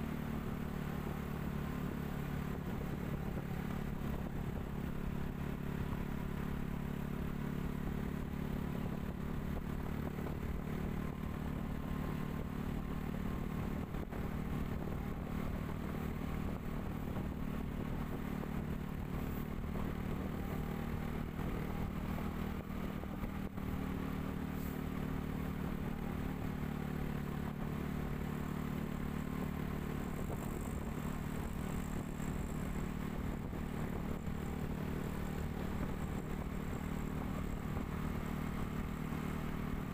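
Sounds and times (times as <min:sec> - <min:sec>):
road noise: 0:00.0 - 0:39.9
vehicle engine cruising: 0:00.0 - 0:39.9.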